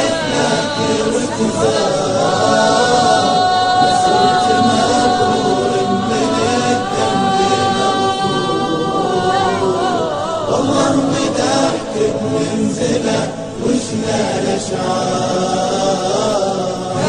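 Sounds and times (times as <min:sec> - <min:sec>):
devotional song with long notes: 0:00.0 - 0:17.0.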